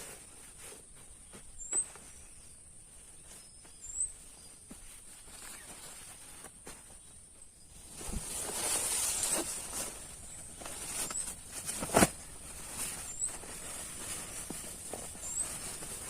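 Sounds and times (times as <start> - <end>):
rustling and handling noise: 0.0 - 16.0.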